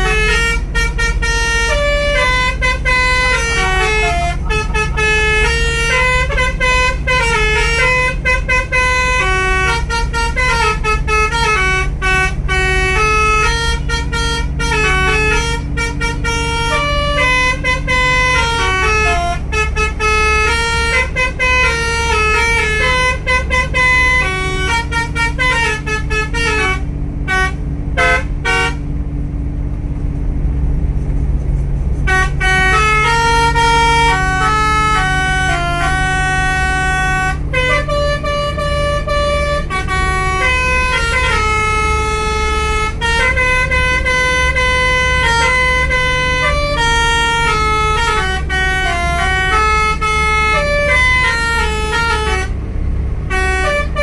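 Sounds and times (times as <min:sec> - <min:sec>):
bus horn playing a tune: 0:00.0 - 0:29.7, 0:31.3 - 0:54.0
bus engine running: 0:00.0 - 0:54.0.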